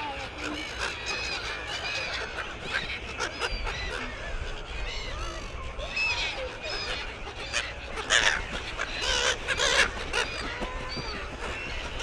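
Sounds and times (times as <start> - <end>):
gulls squawking: 0.0 - 12.0.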